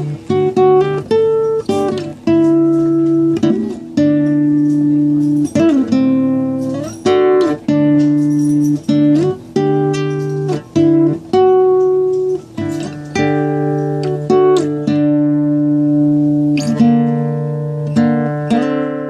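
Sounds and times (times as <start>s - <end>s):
acoustic guitar strummed chords: 0.0s - 19.0s.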